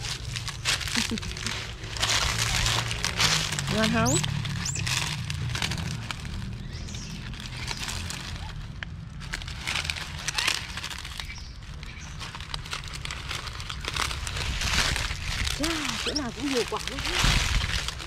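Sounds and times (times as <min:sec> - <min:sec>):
dry leaves rustling and crackling: 0:00.0 - 0:18.0
steady low rumble: 0:00.0 - 0:18.0.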